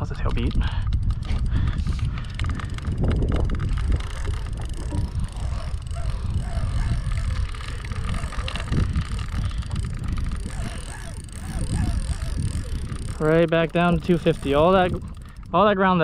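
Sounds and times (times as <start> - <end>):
fishing reel clicking rapidly: 0.0 - 16.0
wind buffeting microphone: 0.0 - 16.0.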